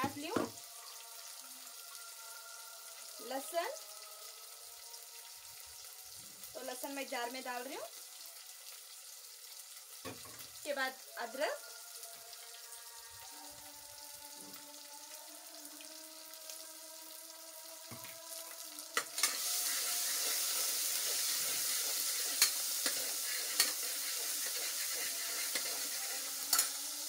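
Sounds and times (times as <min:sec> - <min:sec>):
masala sizzling in hot oil: 0:00.0 - 0:27.0.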